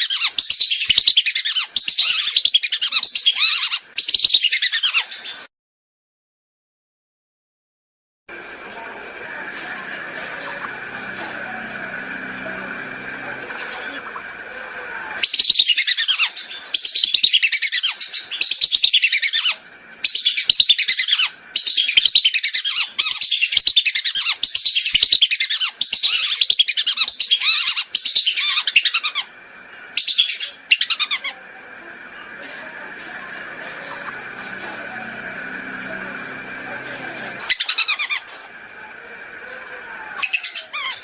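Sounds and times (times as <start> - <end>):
whistling ducks calling: 0.0 - 5.5, 8.8 - 41.0.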